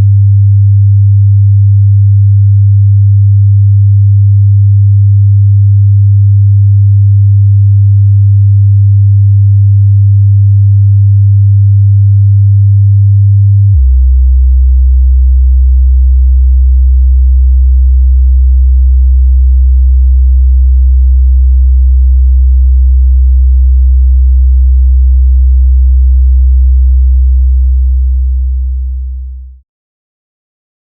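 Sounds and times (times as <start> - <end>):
low sine-wave hum: 0.0 - 29.6.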